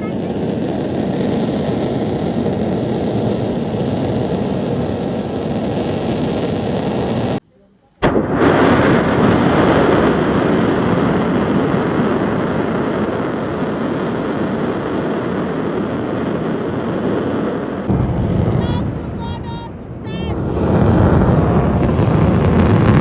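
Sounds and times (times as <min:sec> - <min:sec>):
volcano rushing rumble: 0:00.0 - 0:07.4, 0:08.0 - 0:23.0.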